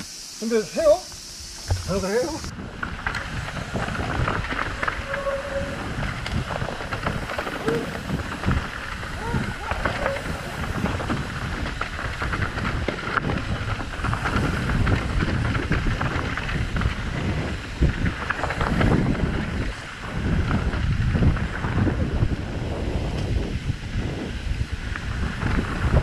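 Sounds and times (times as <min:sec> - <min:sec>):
wind buffeting microphone: 0:01.4 - 0:26.0.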